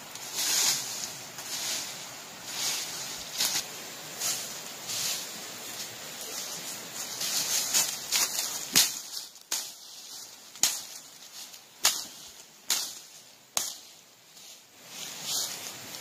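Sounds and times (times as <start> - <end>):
dry leaves rustling: 0.0 - 16.0
sharp hits on dry leaves: 0.0 - 16.0.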